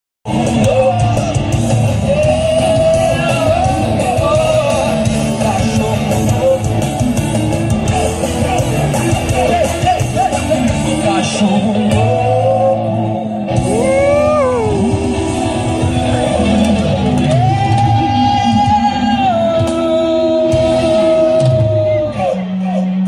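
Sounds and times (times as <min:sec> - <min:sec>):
live band with singer: 0:00.3 - 0:23.0.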